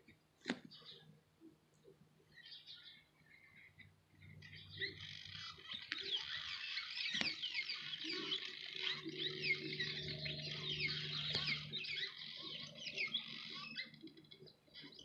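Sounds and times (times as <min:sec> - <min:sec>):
many birds chirping: 0:00.6 - 0:15.0
low steady hum: 0:01.0 - 0:15.0.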